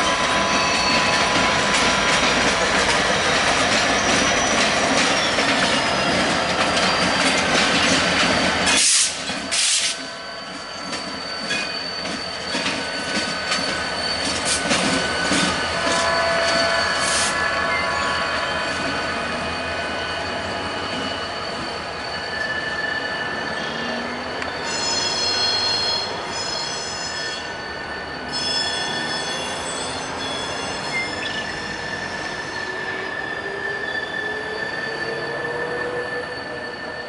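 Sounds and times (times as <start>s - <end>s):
steel wheels squealing on rail: 0.0s - 37.0s.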